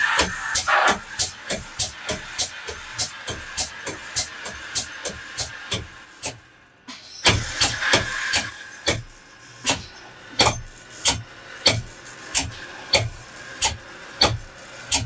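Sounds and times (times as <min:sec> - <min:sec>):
air pump knocking: 0:00.0 - 0:06.4, 0:07.3 - 0:15.0.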